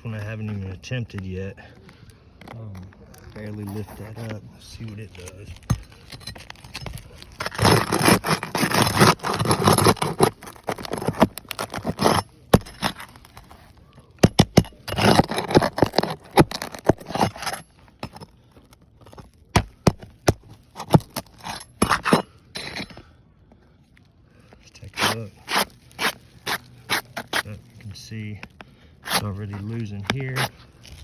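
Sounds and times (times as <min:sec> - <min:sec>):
roof shingles scraping and crackling: 0:01.8 - 0:23.0, 0:24.6 - 0:31.0.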